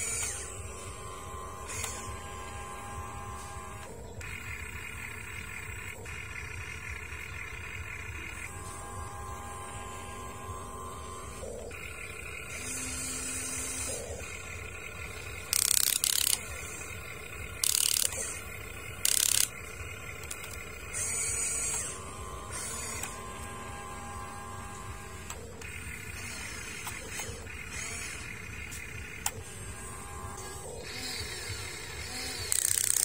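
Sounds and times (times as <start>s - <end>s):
electric gear motors whining: 0.0s - 33.0s
loud grinding noises: 0.0s - 33.0s.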